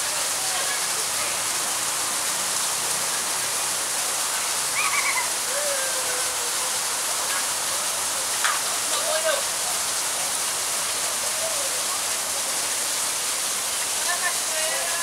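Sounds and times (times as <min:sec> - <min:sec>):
waterfall spilling into pond: 0:00.0 - 0:15.0.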